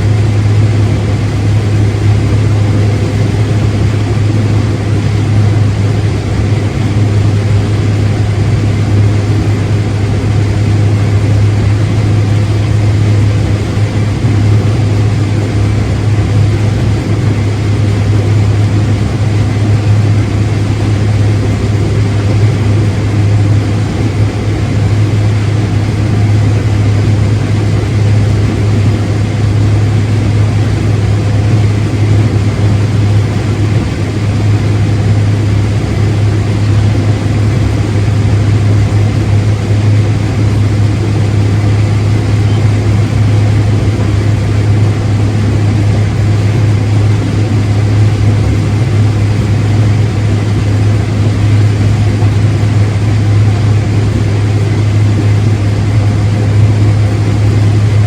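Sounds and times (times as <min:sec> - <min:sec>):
farm machine engine running: 0:00.0 - 0:58.0.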